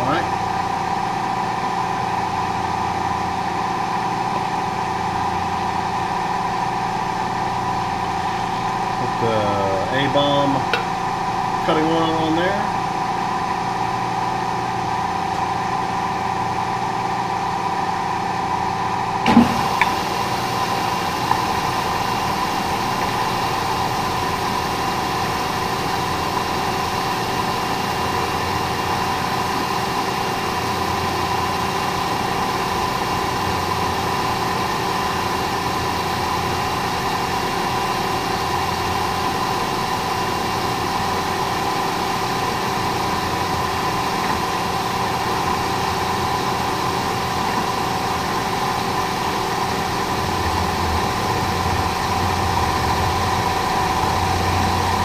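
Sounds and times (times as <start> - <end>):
milling machine humming: 0.0 - 55.0.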